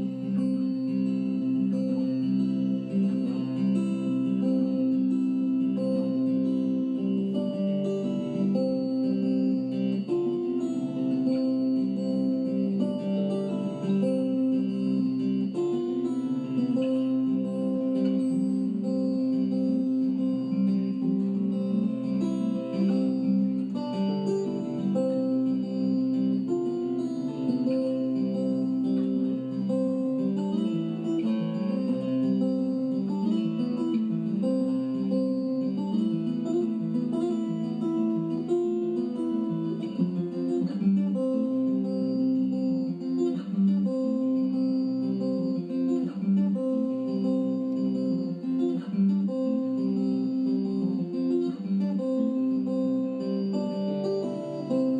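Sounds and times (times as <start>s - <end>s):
acoustic guitar strumming: 0.0s - 54.9s.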